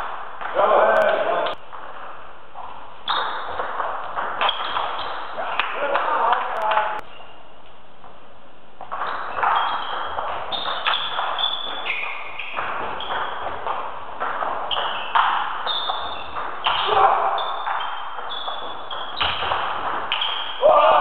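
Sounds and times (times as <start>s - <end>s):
table tennis ball rally: 0.0s - 2.3s, 3.0s - 7.0s, 8.8s - 21.0s.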